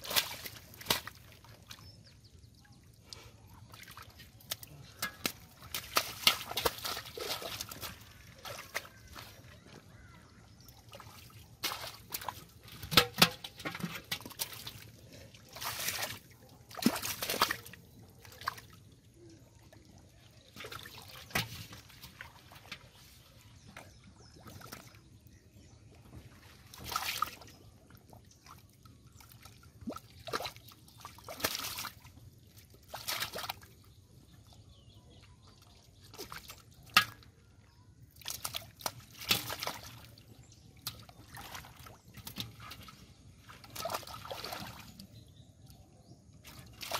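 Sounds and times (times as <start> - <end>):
splashing in muddy water: 0.0 - 46.9.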